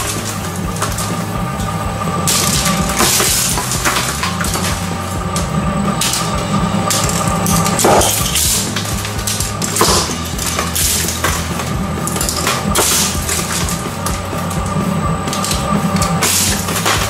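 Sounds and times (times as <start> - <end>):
shredder humming: 0.0 - 17.0.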